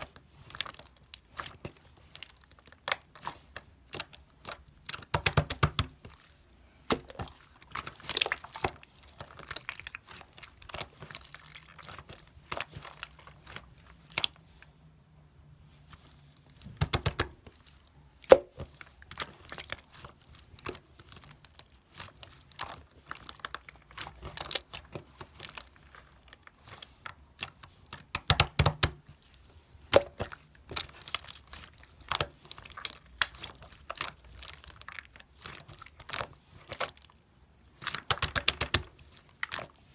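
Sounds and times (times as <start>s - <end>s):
slime squelching by hand: 0.0s - 14.8s, 15.5s - 39.9s.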